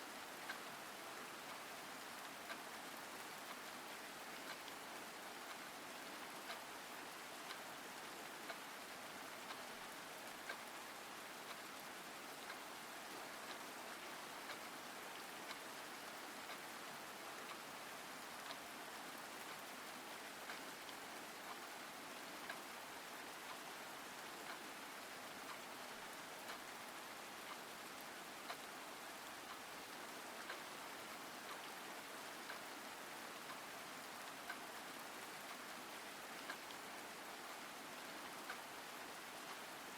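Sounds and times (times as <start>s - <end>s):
faint drip-like ticks: 0.0s - 39.9s
steady rain falling: 0.0s - 39.9s.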